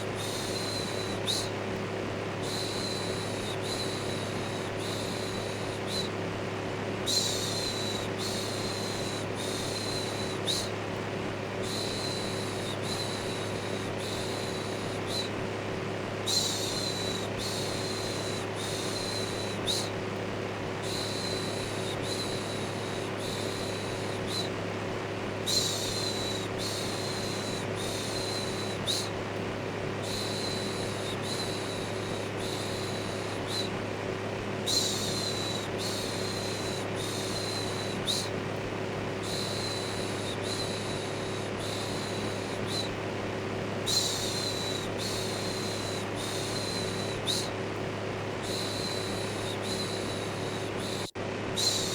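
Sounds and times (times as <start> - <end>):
electric fan drone: 0.0 - 51.9.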